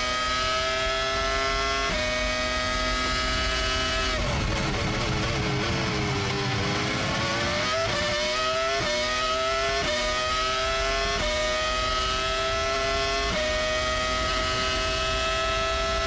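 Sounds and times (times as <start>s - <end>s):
racing engine accelerating through gears: 0.0s - 16.0s.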